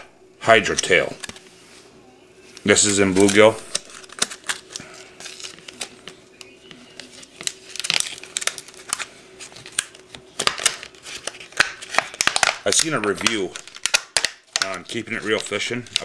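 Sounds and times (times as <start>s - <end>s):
plastic packaging crinkling: 2.6s - 16.0s.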